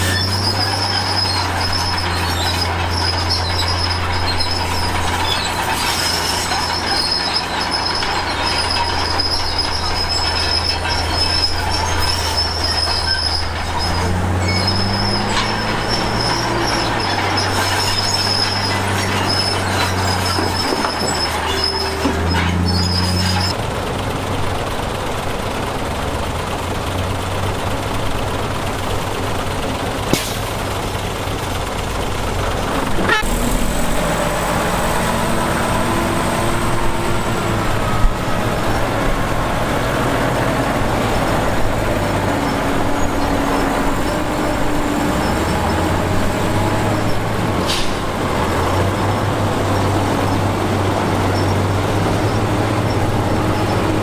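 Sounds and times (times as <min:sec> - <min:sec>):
high-pitched squeal of steel tracks: 0:00.0 - 0:23.6, 0:33.0 - 0:54.0
bulldozer diesel engine: 0:00.0 - 0:54.0.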